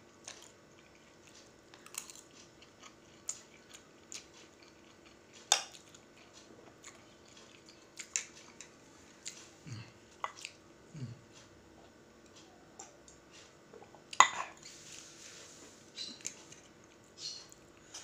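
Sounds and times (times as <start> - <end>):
soft chewing: 0.1 - 18.0.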